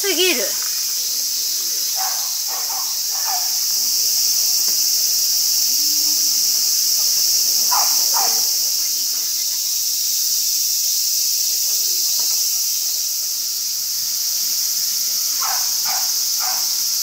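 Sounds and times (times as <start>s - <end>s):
insects chorus shrill drone: 0.0s - 17.0s.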